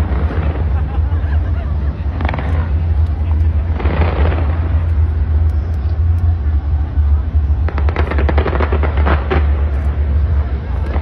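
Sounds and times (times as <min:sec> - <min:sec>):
fireworks burst: 0:00.0 - 0:11.0
fireworks crackling: 0:00.0 - 0:11.0
low rumble: 0:00.0 - 0:11.0.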